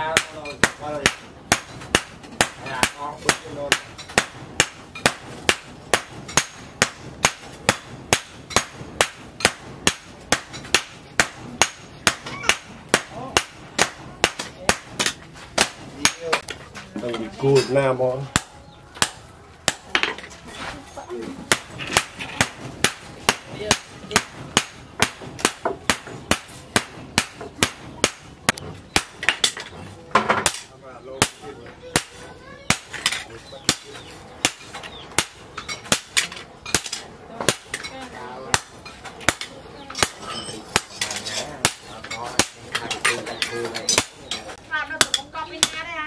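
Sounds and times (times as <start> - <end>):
hammer striking hot steel on anvil: 0.0 - 16.5, 21.5 - 45.8.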